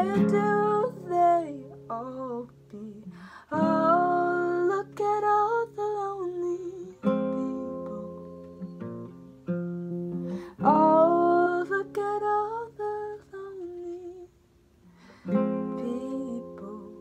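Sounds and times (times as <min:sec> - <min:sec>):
acoustic guitar chords: 0:00.0 - 0:14.2, 0:15.0 - 0:17.0.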